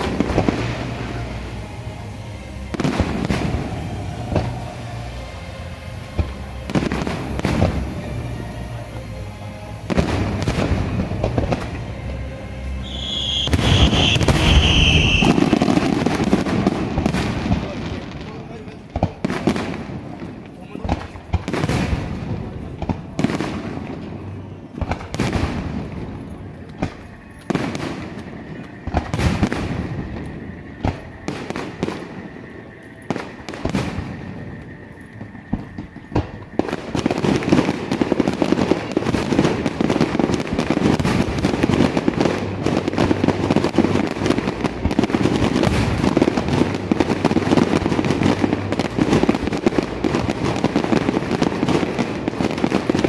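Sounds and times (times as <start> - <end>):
fireworks bursting and crackling: 0.0 - 53.0.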